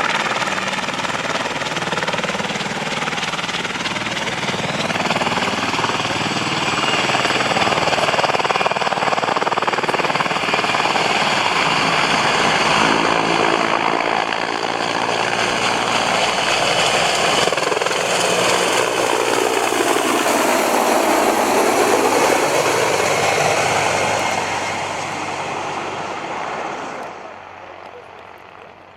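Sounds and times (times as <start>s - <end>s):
helicopter rotor blades chopping: 0.0s - 27.6s
high turbine whine: 0.0s - 27.6s.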